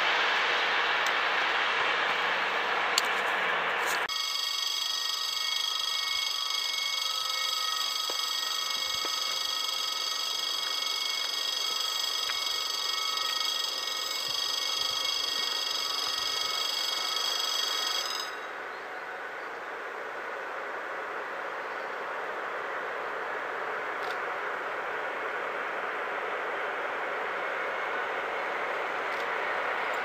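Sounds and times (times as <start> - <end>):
train rumble approaching: 0.0 - 30.0.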